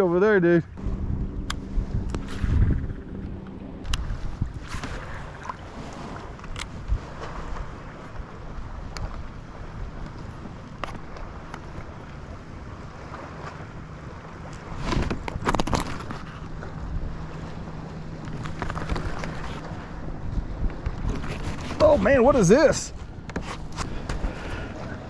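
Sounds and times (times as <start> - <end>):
water lapping against hull: 0.2 - 25.0
wind on microphone: 0.7 - 25.0.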